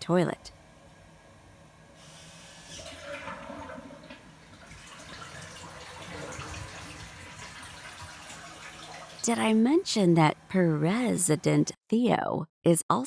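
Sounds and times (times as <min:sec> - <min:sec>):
toilet flushing: 0:00.0 - 0:11.7.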